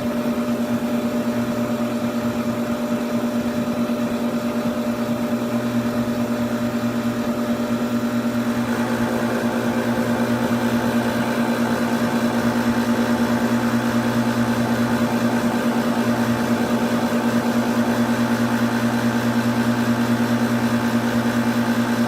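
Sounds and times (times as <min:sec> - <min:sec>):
air conditioner compressor humming: 0:00.0 - 0:22.0.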